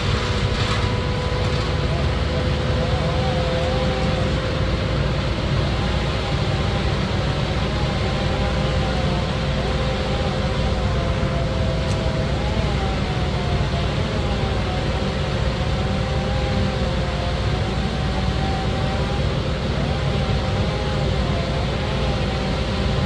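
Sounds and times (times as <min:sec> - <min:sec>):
tree-cutting machine rumbling: 0:00.0 - 0:23.0
wavering machine whine: 0:00.0 - 0:23.0.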